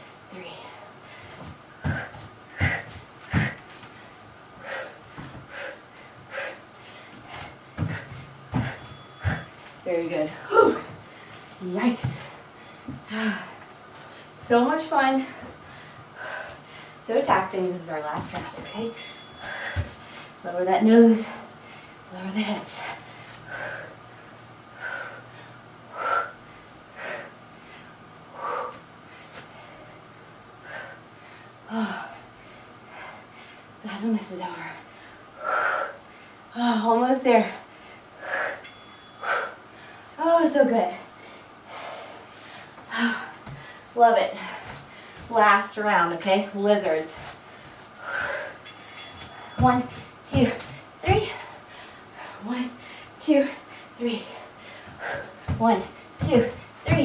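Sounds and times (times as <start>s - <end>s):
woman breathing hard: 0.5s - 9.5s, 10.4s - 14.4s, 15.3s - 17.0s, 18.9s - 20.4s, 22.7s - 33.8s, 34.8s - 36.6s, 37.6s - 40.2s, 41.1s - 45.3s, 47.2s - 57.0s.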